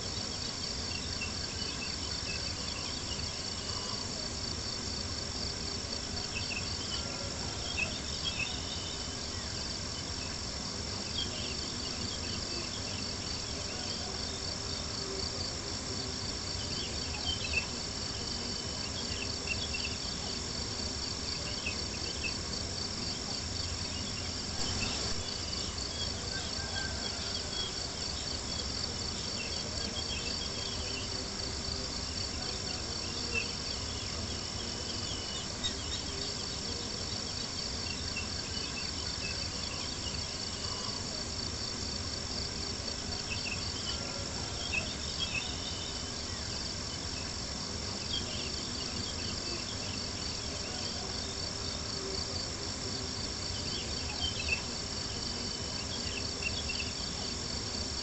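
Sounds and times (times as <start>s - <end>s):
crickets chirping: 0.0s - 58.0s
low steady hush: 0.0s - 58.0s.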